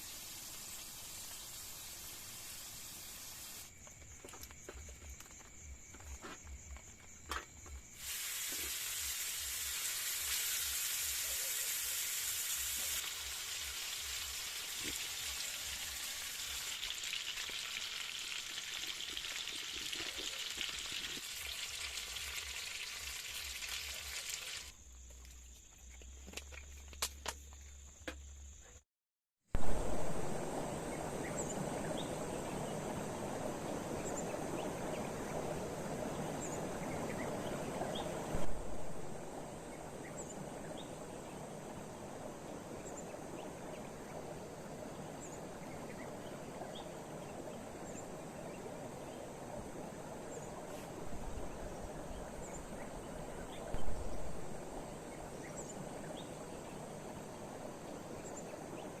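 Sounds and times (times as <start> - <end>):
rain hiss: 0.0 - 3.8, 7.8 - 24.8, 29.5 - 59.0
faint high insect chirps: 0.0 - 28.8, 29.6 - 59.0.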